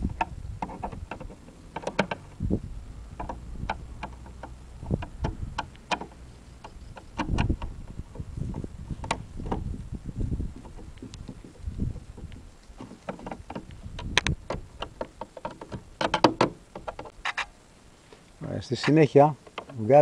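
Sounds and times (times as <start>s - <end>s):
low rumbling: 0.0s - 20.0s.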